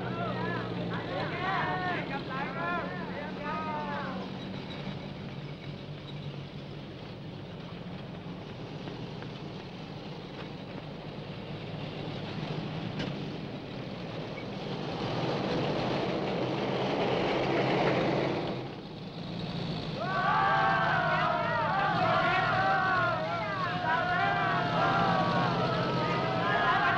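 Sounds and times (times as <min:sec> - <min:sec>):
road noise: 0:00.0 - 0:26.9
trucks driving past: 0:00.0 - 0:26.9.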